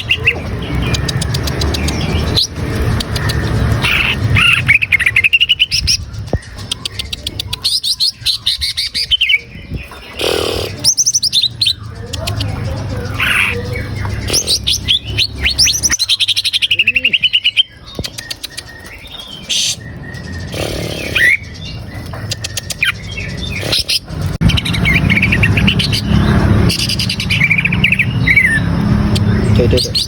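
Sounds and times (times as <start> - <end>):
bird chirping and warbling: 0.0 - 30.0.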